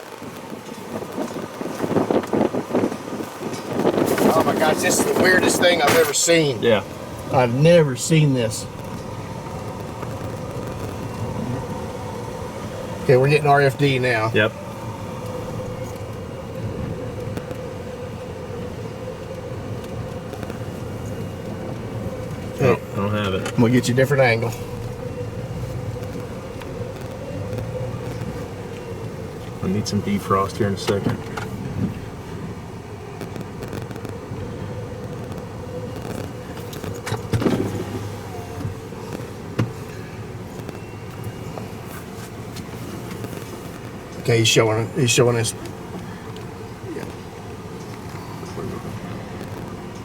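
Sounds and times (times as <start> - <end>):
vehicle cabin hum and rush: 0.0 - 50.0.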